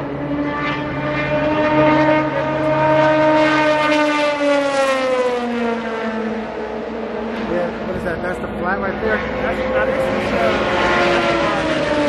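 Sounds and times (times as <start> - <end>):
race car engine passing at speed: 0.0 - 12.0.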